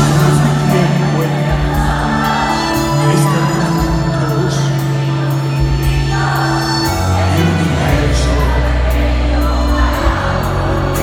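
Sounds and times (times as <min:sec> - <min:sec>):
live pop band with singing: 0:00.0 - 0:11.0.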